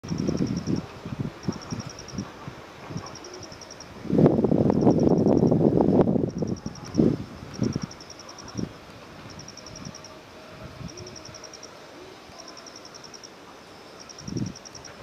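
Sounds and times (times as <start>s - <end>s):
insect singing in pulsed trills: 0.0s - 2.3s, 2.9s - 4.0s, 4.6s - 5.6s, 6.2s - 8.7s, 9.3s - 15.0s
low bursts of noise: 0.0s - 15.0s.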